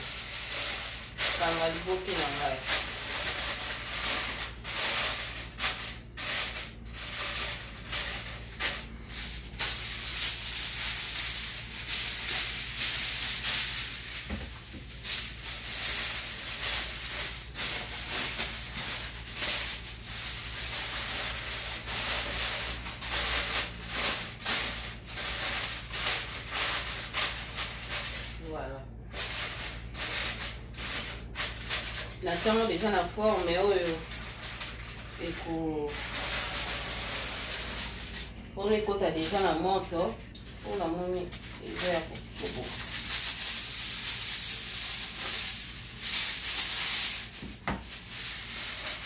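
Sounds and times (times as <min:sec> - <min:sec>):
aluminium foil crinkling: 0:00.0 - 0:49.0
steady low hum: 0:00.0 - 0:49.0.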